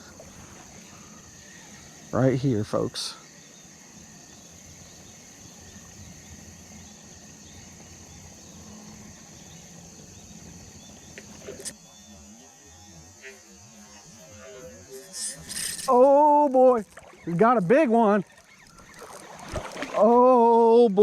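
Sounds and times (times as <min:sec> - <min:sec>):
insects chorus: 0:00.0 - 0:21.0
outdoor background noise: 0:00.0 - 0:21.0.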